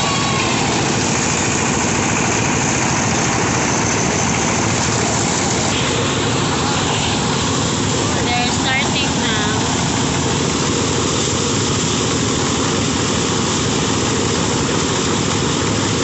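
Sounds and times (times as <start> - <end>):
harvester engine droning: 0.0 - 16.0.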